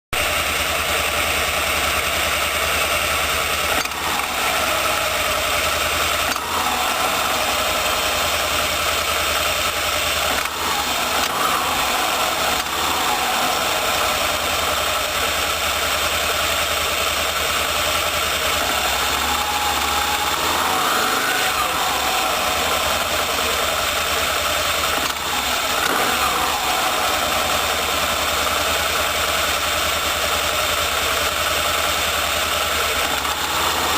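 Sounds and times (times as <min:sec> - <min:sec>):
engine running: 0:00.1 - 0:33.9.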